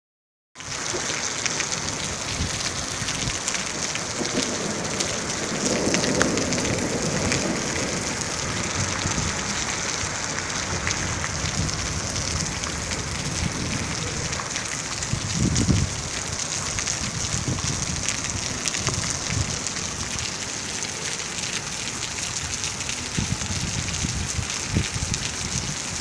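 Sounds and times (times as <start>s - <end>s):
raindrops ticking on surface: 0.6s - 26.0s
steady rain hissing: 0.6s - 26.0s.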